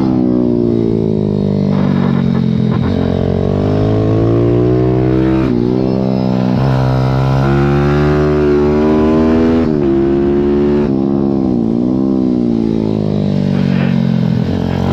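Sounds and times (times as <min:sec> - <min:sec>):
pit bike engine revving: 0:00.0 - 0:10.9, 0:11.8 - 0:14.9.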